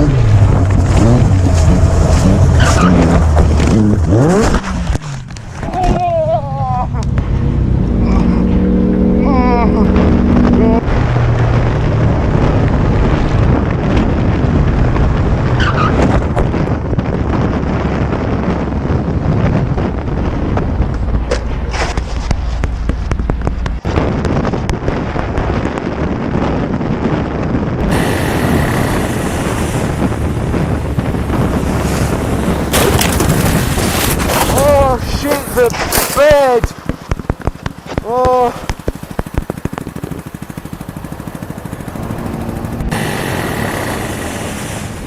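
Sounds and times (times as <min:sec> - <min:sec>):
road noise: 0:00.0 - 0:45.0
vehicle engine: 0:00.0 - 0:45.0
wind on microphone: 0:00.0 - 0:45.0.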